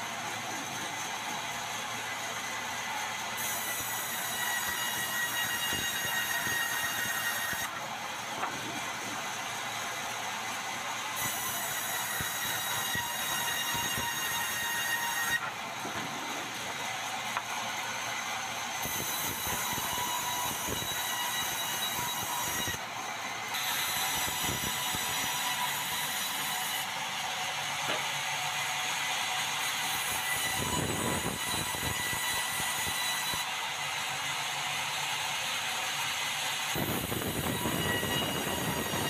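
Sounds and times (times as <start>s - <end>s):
band saw cutting wood: 0.0s - 39.0s.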